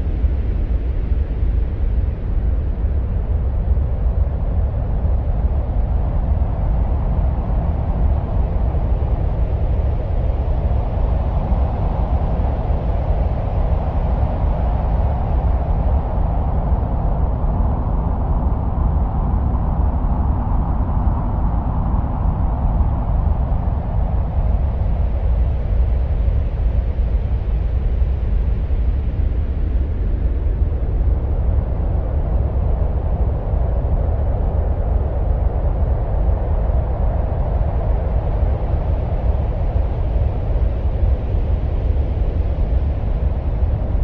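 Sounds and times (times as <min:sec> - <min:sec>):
wind-like rumbling with hiss: 0:00.0 - 0:44.0.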